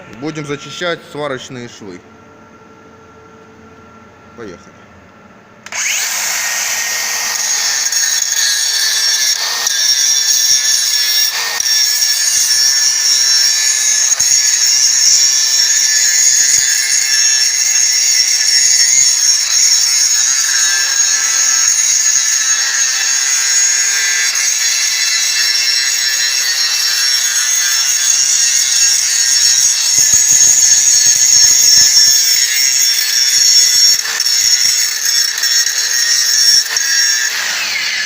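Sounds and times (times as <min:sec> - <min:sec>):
angle grinder grinding metal: 0:05.6 - 0:38.0.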